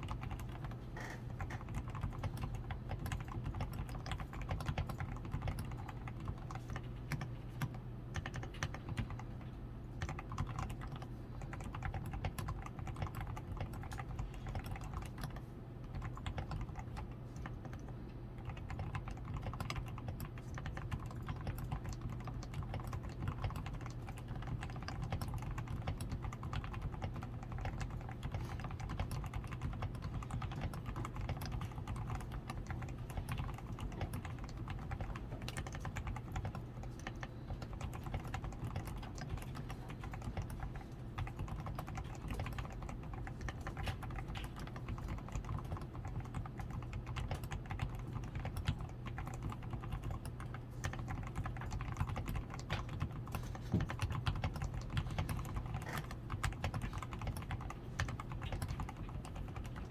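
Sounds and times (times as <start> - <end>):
low steady hum: 0.0 - 59.9
typing on mechanical keyboard: 0.0 - 59.9.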